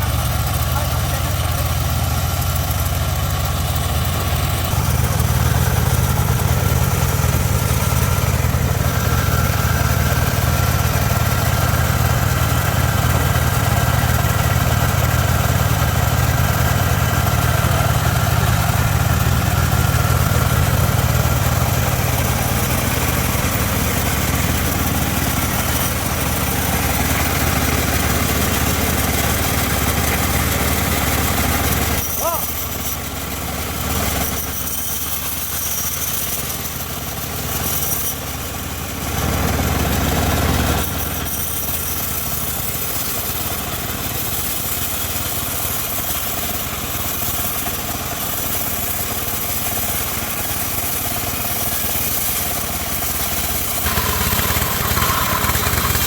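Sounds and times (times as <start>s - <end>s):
sawmill engine drone: 0.0s - 56.0s.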